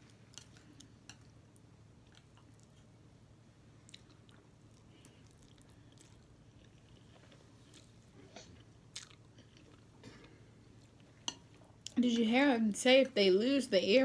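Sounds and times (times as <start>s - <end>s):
person chewing noodles: 0.0s - 12.0s.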